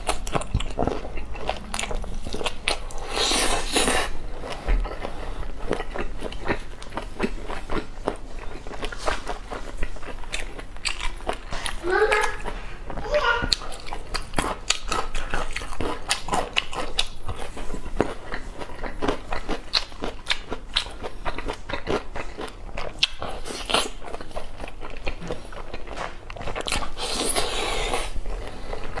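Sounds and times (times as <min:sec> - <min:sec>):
chewing and crunching food: 0:00.0 - 0:29.0.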